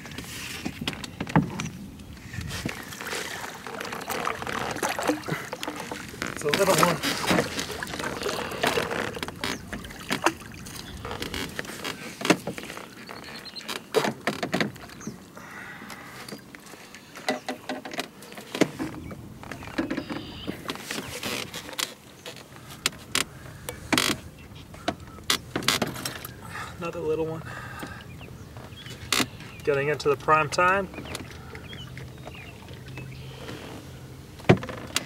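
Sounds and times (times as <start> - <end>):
knocks and clicks in boat: 0.0 - 35.0.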